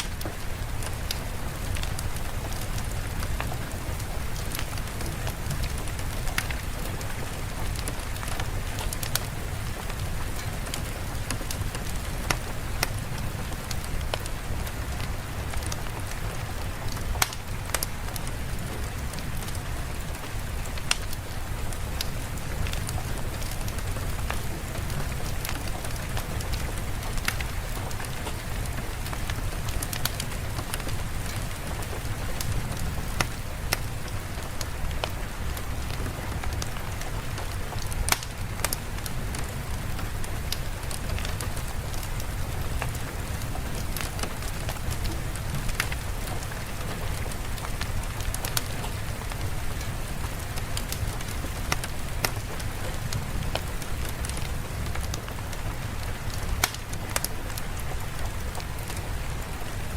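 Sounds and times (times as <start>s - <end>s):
fire crackling: 0.0s - 59.9s
steady rain: 0.0s - 59.9s.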